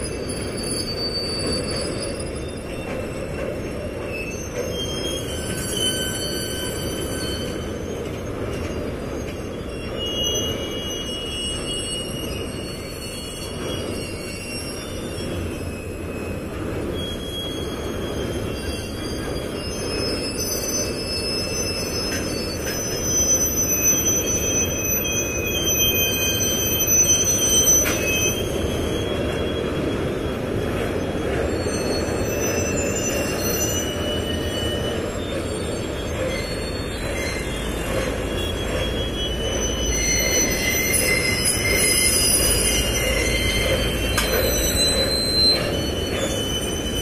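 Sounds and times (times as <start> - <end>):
metallic wheel squeals: 0.0 - 47.0.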